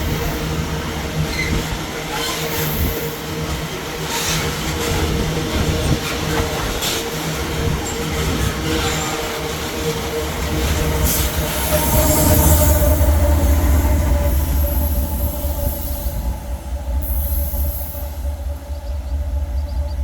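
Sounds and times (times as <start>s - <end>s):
train wagons rumbling past: 0.0s - 20.0s
wheels squealing on rails: 0.0s - 20.0s.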